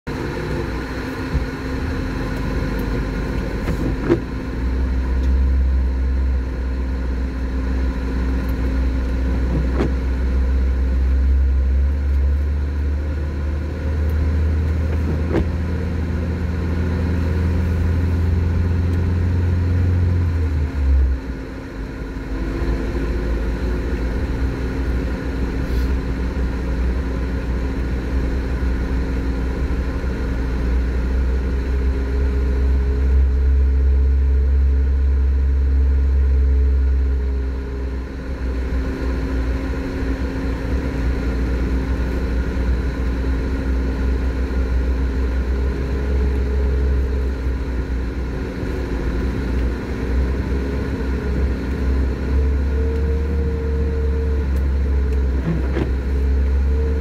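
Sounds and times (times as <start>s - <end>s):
car engine drone from inside: 0.0s - 57.0s.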